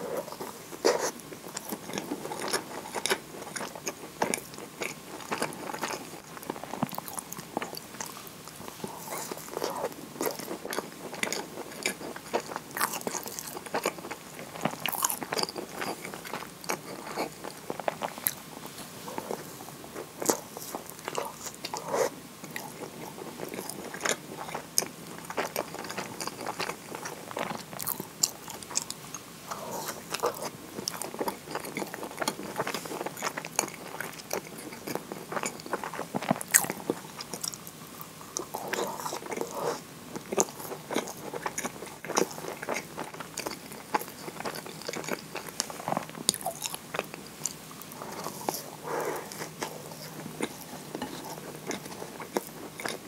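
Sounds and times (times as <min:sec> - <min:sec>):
biting and chewing scone: 0:00.0 - 0:18.5, 0:19.1 - 0:53.0.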